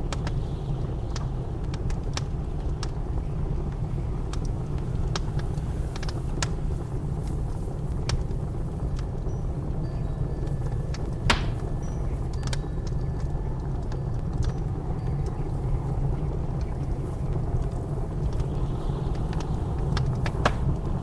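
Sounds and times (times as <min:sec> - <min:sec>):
low rumble of blizzard wind: 0:00.0 - 0:21.0
wood fire crackling and popping: 0:00.0 - 0:21.0.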